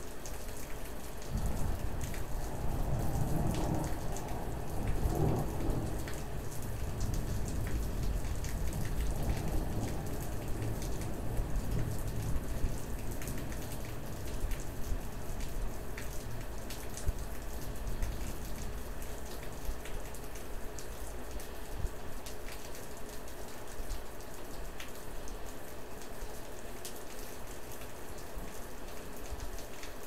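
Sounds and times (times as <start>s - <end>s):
rain falling steadily: 0.0s - 30.0s
sharp ticks of raindrops: 0.0s - 30.0s.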